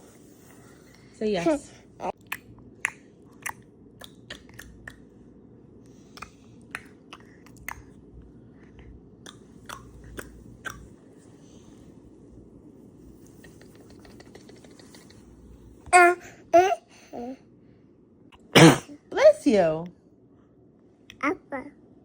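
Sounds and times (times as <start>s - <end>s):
faint room hum: 0.0s - 22.0s.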